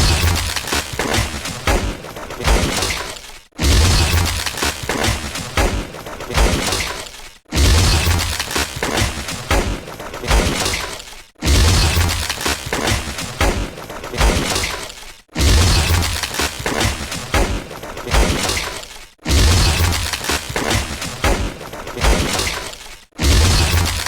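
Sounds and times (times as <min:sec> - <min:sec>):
rapid gunfire: 0:00.0 - 0:24.0.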